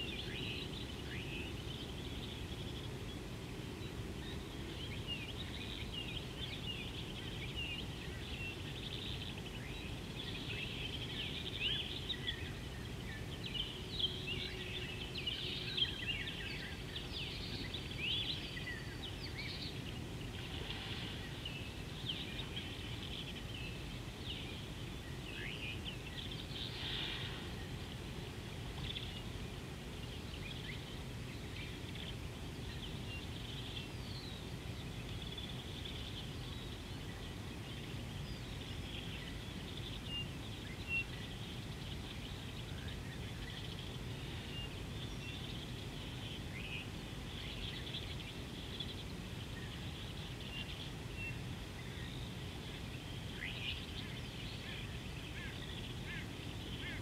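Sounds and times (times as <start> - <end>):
birds chirping: 0.0 - 57.0
low outdoor rumble: 0.0 - 57.0.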